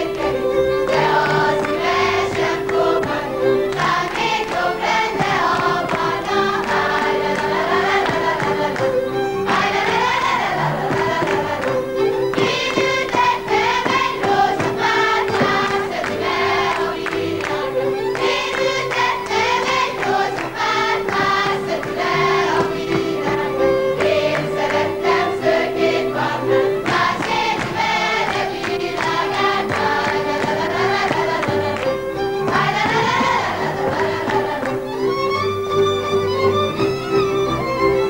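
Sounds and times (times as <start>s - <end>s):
group singing in chorus: 0.0s - 34.9s.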